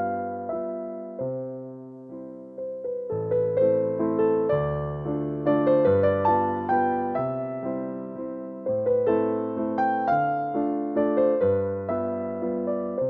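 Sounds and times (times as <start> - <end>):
gentle piano tune: 0.0 - 13.0.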